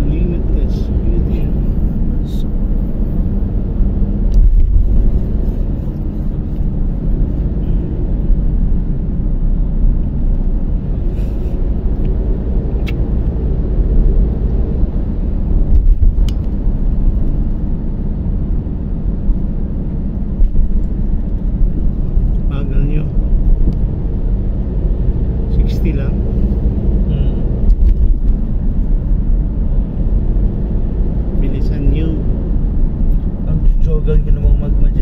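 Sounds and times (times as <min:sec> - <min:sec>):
car tyres and engine rumble: 0:00.0 - 0:35.0.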